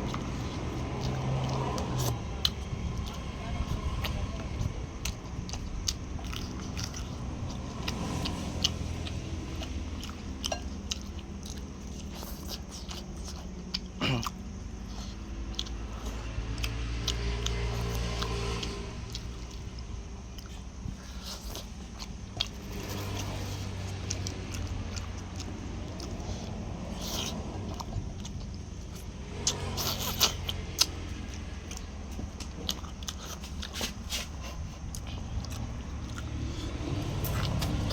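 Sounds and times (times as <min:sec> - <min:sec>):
person chewing and crunching: 0:00.0 - 0:37.9.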